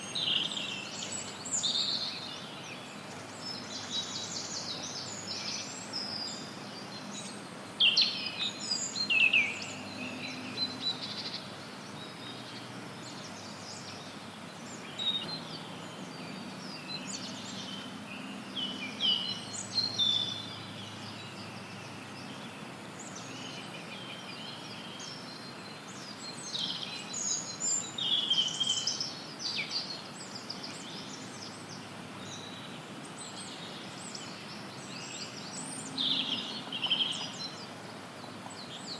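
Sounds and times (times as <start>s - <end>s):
songbirds singing: 0.0s - 38.9s
white noise hiss: 0.0s - 38.9s.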